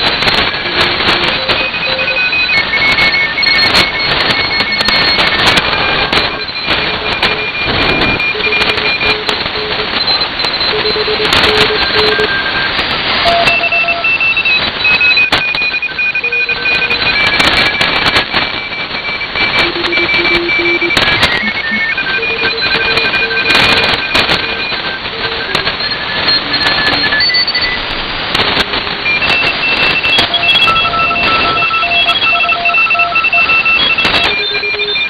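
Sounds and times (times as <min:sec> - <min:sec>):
morse code beeps: 0:00.0 - 0:35.0
radio static with crackles: 0:00.0 - 0:35.0.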